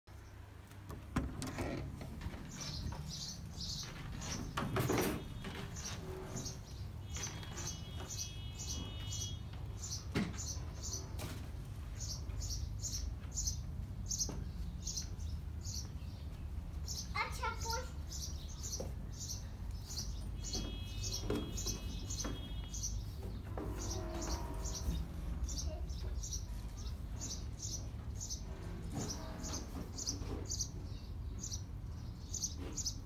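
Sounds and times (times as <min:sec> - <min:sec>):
bird chirping: 0:02.4 - 0:11.1, 0:11.9 - 0:33.0.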